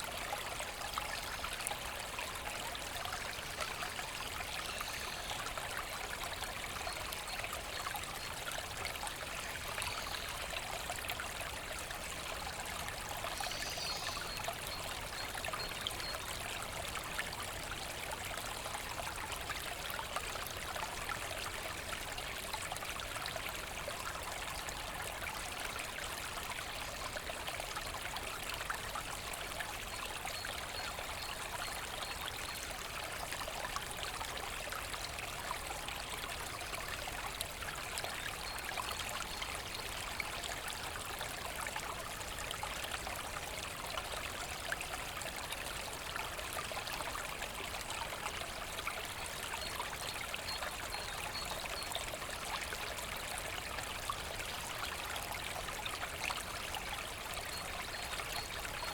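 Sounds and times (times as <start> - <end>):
brook running and trickling: 0.0 - 58.9.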